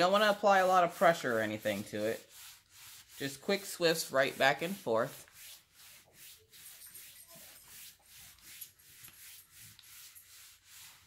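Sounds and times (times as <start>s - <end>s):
iron swishing over paper: 0.0s - 11.0s.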